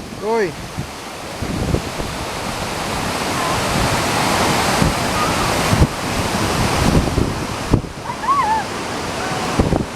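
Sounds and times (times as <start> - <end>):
waterfall roaring: 0.0 - 9.9
wind buffeting microphone: 0.0 - 9.9.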